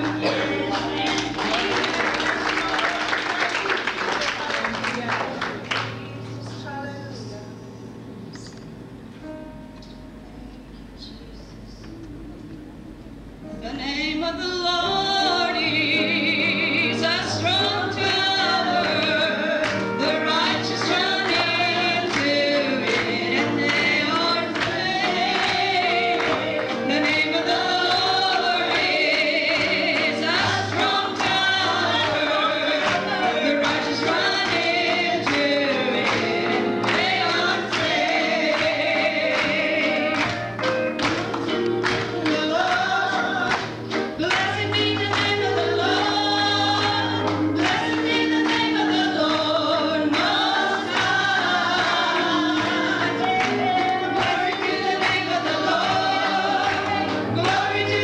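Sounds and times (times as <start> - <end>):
group singing gospel song: 0.0 - 4.1, 13.6 - 58.0.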